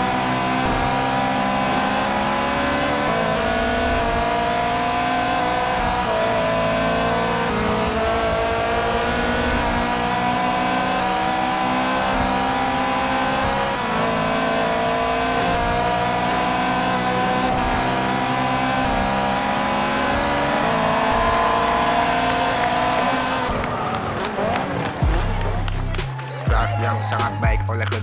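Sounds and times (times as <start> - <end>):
race car engine: 0.0 - 28.0.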